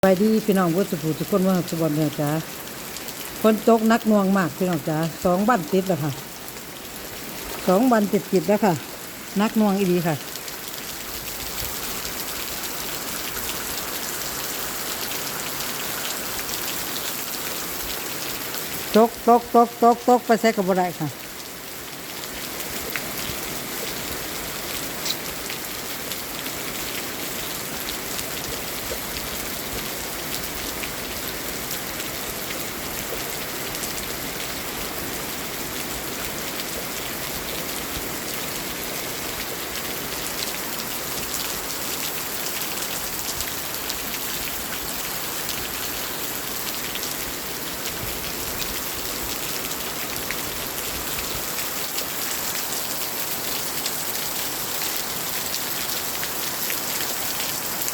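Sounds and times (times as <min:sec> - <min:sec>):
heavy rain falling: 0:00.1 - 0:57.9.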